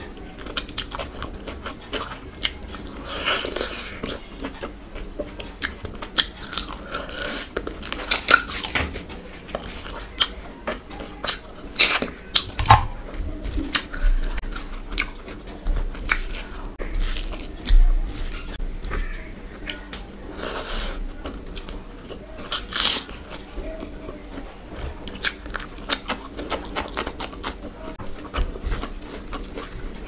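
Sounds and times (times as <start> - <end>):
person chewing with wet smacks: 0.4 - 8.8, 9.5 - 30.0.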